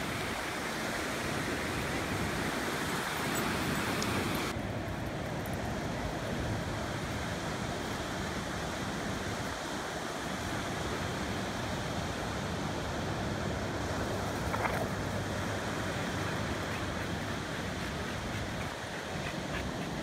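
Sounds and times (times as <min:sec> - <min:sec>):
ocean surf on sandy beach: 0:00.0 - 0:20.0.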